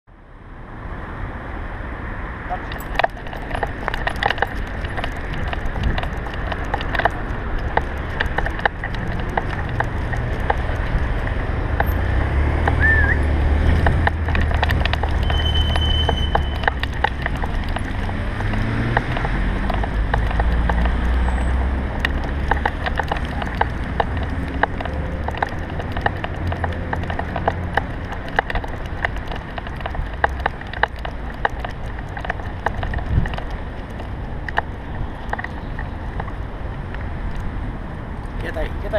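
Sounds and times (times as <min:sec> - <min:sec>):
passing traffic rumble: 0:00.1 - 0:38.9.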